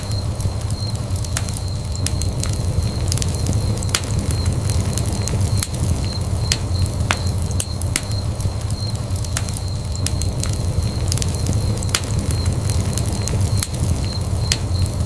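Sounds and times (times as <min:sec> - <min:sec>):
fire flames rumbling: 0:00.0 - 0:15.0
wood crackling and popping: 0:00.0 - 0:15.0.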